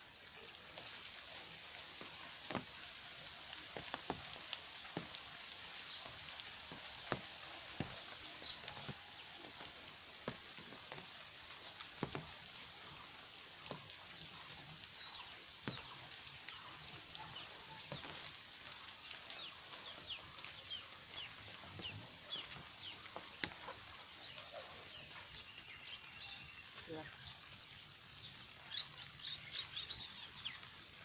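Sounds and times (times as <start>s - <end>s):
steady rain falling: 0.0s - 31.0s
drips and knocks: 0.7s - 27.6s.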